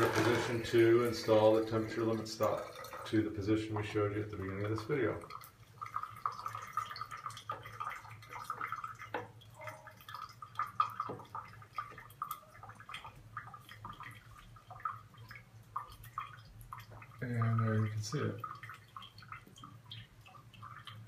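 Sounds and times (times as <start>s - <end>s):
water dripping: 0.0s - 21.0s.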